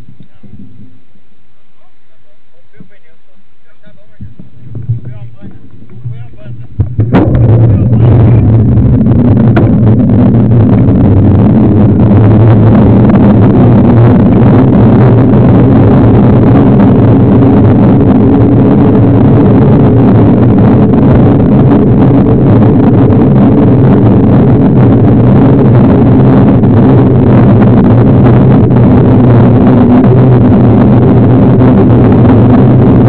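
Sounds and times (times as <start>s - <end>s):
road rumble: 0.0s - 33.0s
wind on microphone: 0.0s - 33.0s.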